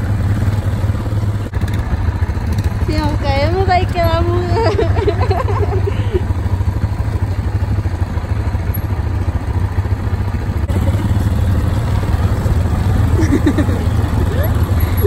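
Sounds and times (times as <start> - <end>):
quad bike engine droning: 0.0 - 15.0.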